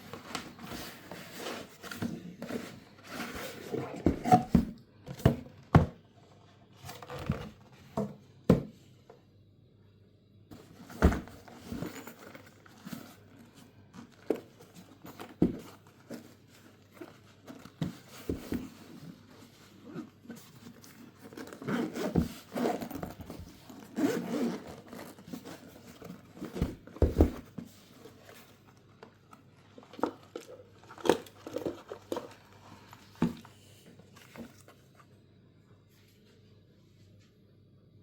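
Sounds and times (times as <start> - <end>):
crinkling and rustling: 0.0 - 8.3, 10.5 - 35.2.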